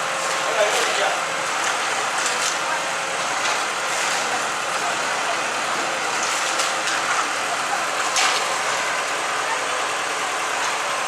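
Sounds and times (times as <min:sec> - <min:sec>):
fire crackling and popping: 0:00.0 - 0:09.3
bonfire roaring: 0:00.0 - 0:11.0.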